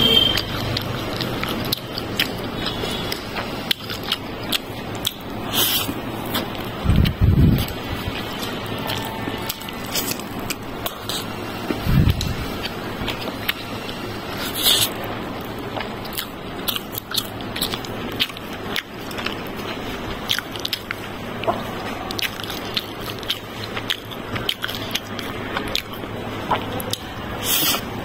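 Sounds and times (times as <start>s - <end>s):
chewing: 0.1s - 27.9s.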